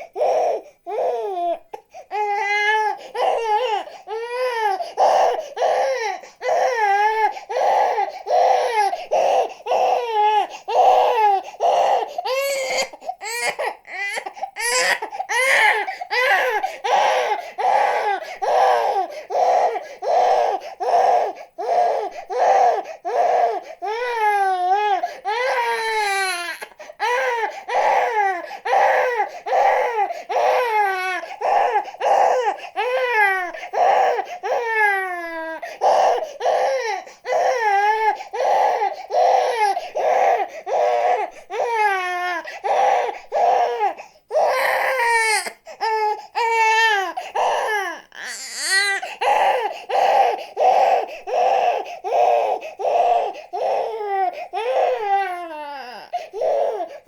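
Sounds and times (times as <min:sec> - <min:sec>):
infant crying: 0:00.0 - 0:57.0.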